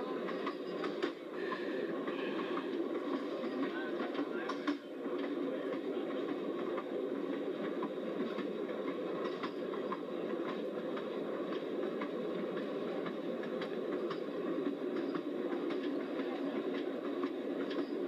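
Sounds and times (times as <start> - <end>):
train wheels rumbling on rails: 0.0 - 18.0
wheels clicking over track: 0.0 - 18.0.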